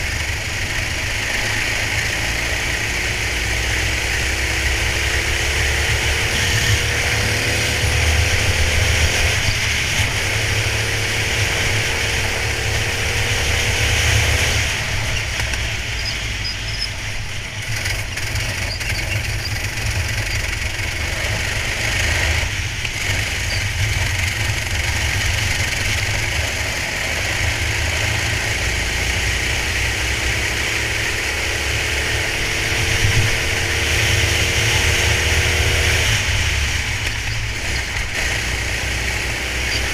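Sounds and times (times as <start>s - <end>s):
kart engine accelerating: 0.0s - 39.9s
steady rushing noise: 0.0s - 39.9s.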